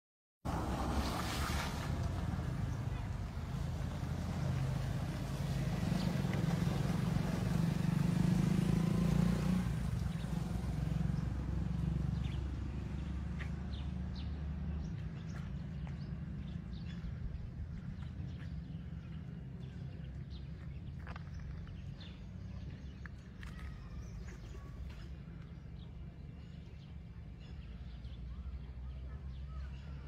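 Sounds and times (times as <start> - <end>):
low outdoor rumble: 0.5 - 30.0.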